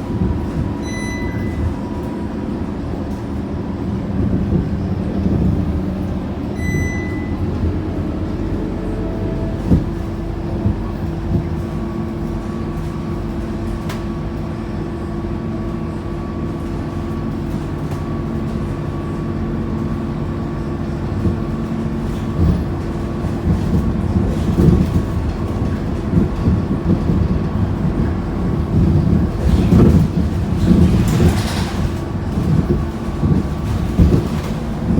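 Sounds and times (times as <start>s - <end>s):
diesel bus engine droning: 0.0s - 34.9s
knocks and rattles from bus body: 0.0s - 34.9s.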